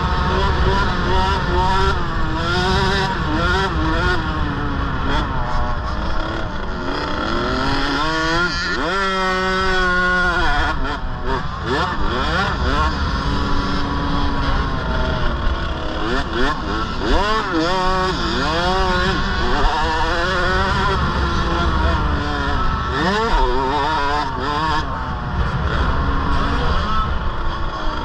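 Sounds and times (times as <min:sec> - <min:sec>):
two-stroke motorbike engine revving: 0:00.0 - 0:28.0.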